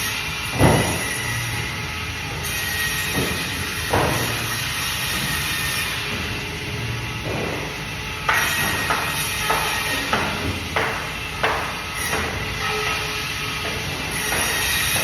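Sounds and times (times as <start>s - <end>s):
band saw cutting fish: 0.0s - 7.3s, 8.2s - 15.0s.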